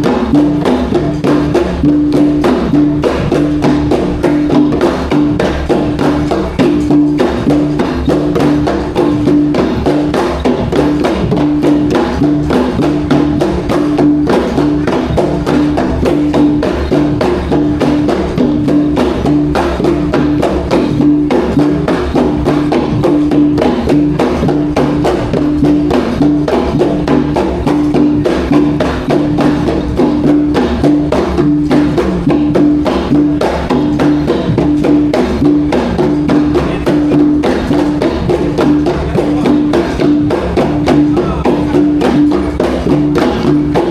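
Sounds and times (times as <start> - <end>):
drums in fast rhythm: 0.0 - 43.9.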